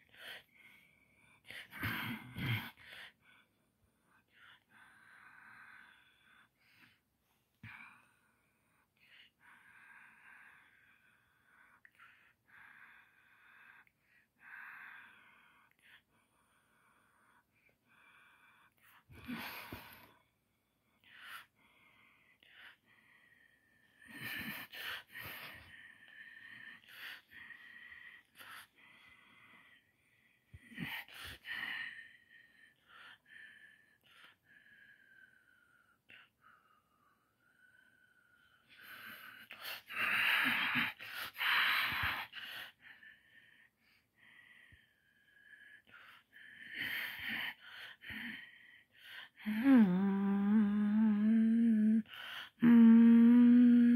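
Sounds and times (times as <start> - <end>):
person breathing close to microphone: 0.0 - 53.9.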